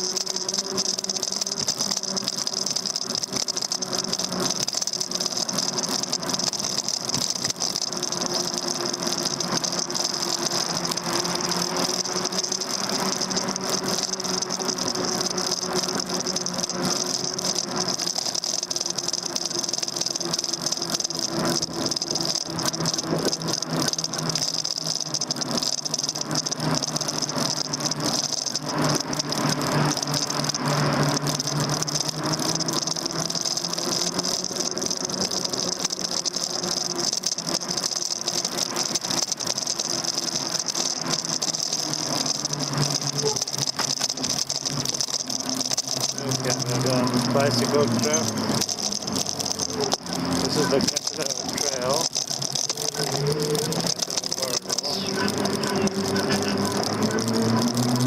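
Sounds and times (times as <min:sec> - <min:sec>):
bike rattling over road: 0:00.0 - 0:58.0
electric motor hum: 0:00.0 - 0:58.0.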